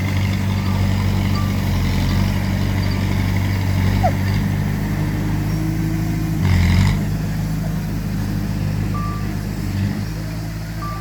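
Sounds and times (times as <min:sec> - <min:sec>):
diesel machinery engine running: 0:00.0 - 0:11.0.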